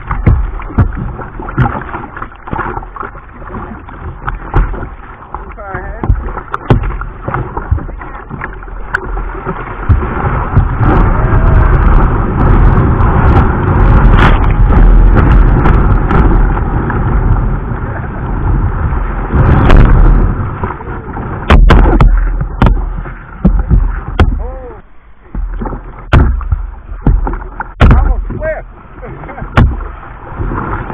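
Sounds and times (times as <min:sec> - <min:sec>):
churning water rumble: 0:00.0 - 0:30.9
hard water splashes: 0:00.0 - 0:30.9.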